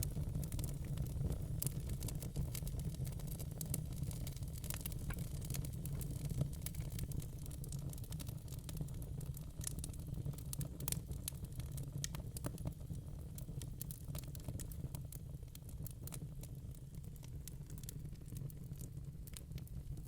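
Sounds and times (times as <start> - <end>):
logs crackling and popping: 0.0 - 12.8, 13.4 - 20.0
low rumble of flame: 0.0 - 20.0.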